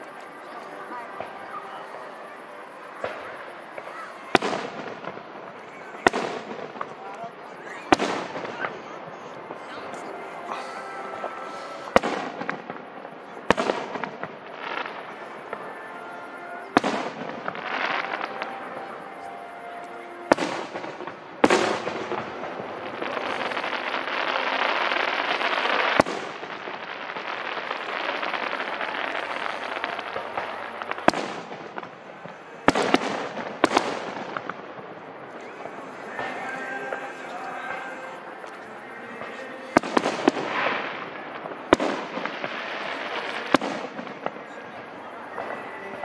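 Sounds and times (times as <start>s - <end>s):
fireworks booming: 0.0s - 46.0s
fireworks crackling: 0.0s - 46.0s.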